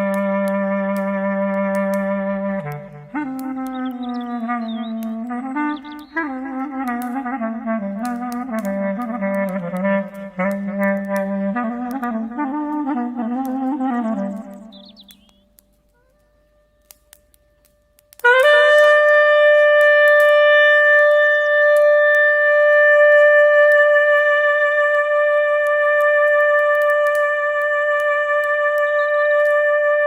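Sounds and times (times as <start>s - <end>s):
clarinet long held note: 0.0s - 14.9s, 16.0s - 30.0s
faint campfire crackles: 0.0s - 30.0s.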